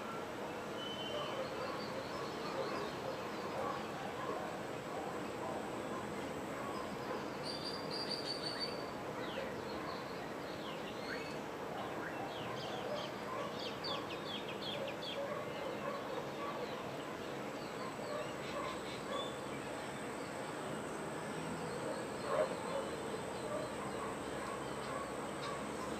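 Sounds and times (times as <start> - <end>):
wild birds chirping: 0.6 - 25.9.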